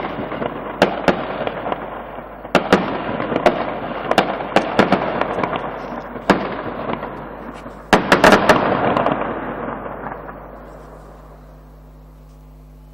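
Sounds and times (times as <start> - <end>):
firework shells bursting with bangs: 0.0 - 12.5.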